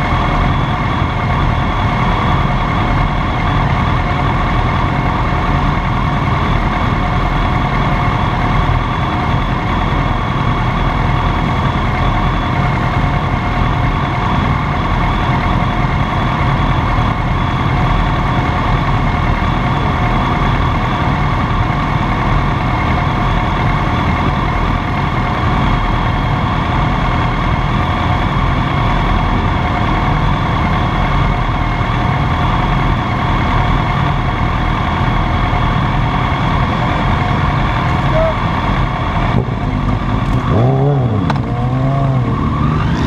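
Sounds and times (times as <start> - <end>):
motorcycle engine idling: 0.0 - 42.7
other motorcycles idling: 0.0 - 43.0.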